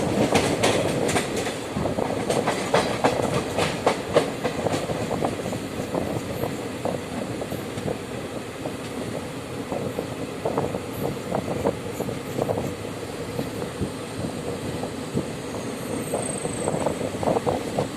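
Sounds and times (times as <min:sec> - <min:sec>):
train rumble: 0:00.0 - 0:17.9
train wheels clattering on rails: 0:00.0 - 0:17.9.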